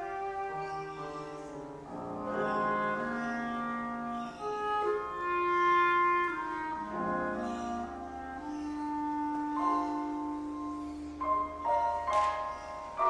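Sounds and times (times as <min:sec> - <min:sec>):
classical chamber music: 0:00.0 - 0:13.0.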